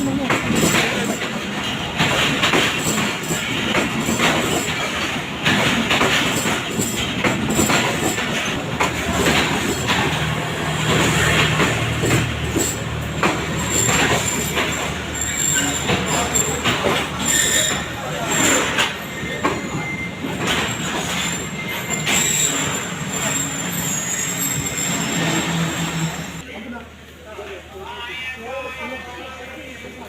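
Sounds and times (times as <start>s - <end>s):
train wheels clattering over rail joints: 0.0s - 24.8s.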